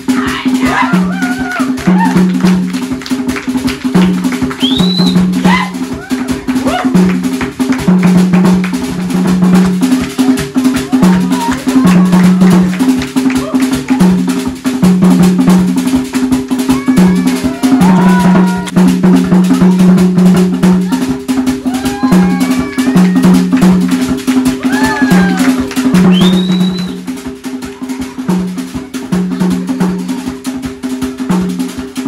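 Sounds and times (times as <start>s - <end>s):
fast drum-driven music: 0.0s - 32.0s.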